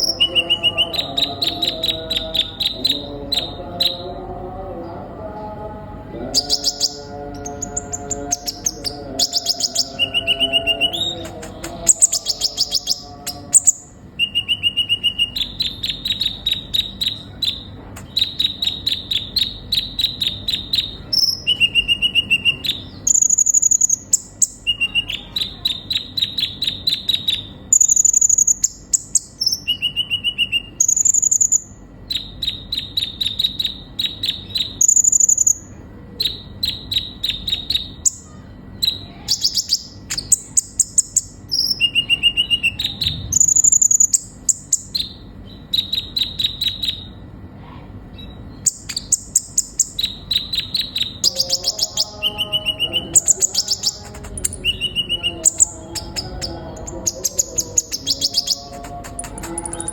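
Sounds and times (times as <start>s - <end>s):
sunbird singing trills: 0.0s - 4.1s, 6.2s - 47.3s, 48.1s - 59.9s.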